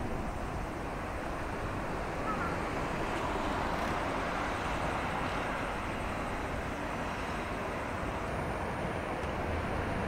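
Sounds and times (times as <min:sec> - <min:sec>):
road traffic rumble on bridge: 0:00.0 - 0:10.0.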